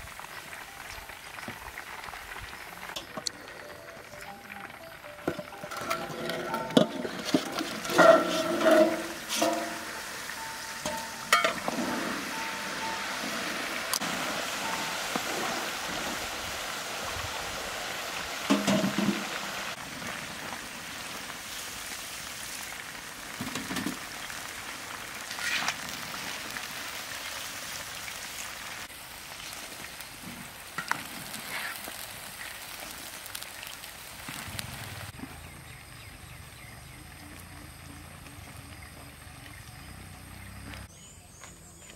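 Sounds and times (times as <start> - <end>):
oil sizzling in a wok: 0.0 - 40.8.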